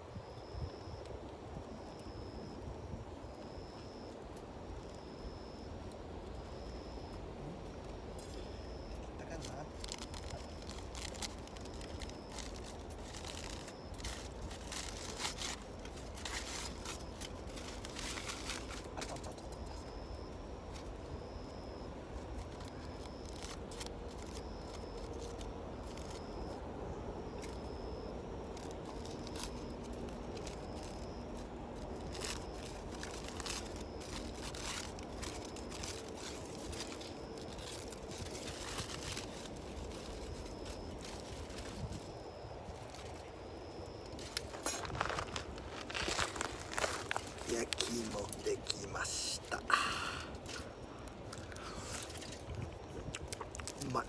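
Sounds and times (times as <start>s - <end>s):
low fire rumble: 0.0s - 54.0s
campfire crackling and popping: 9.0s - 26.6s, 27.3s - 54.0s.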